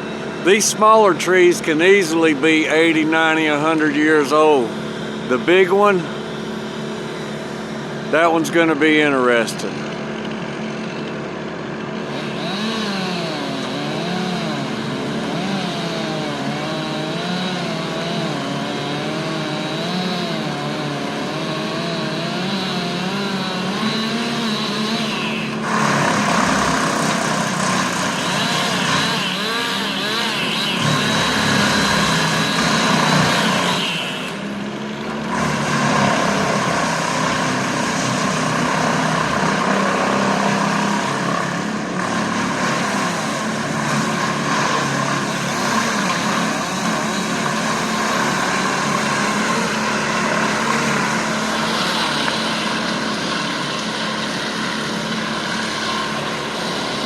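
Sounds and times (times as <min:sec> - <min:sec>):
chainsaw cutting wood: 0:00.0 - 0:08.5, 0:09.2 - 0:57.0.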